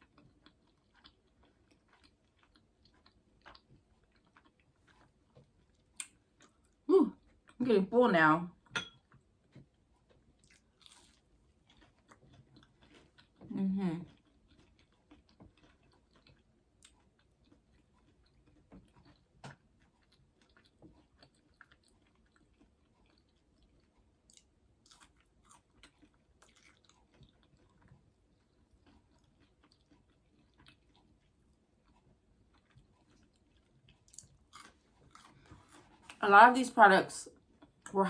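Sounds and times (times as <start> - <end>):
faint chewing: 0.0 - 7.6, 8.5 - 36.2, 37.2 - 38.0.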